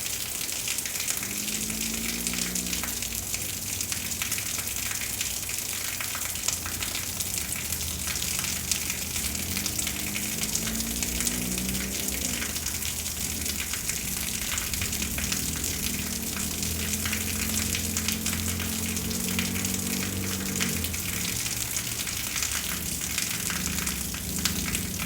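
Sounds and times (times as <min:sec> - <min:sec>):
rain falling steadily: 0:00.0 - 0:25.0.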